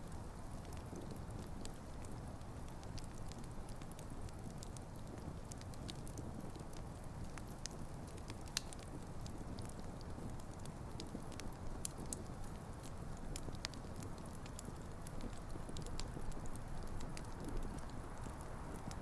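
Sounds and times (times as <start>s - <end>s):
burning logs crackling and popping: 0.0s - 19.0s
campfire flames rumbling: 0.0s - 19.0s.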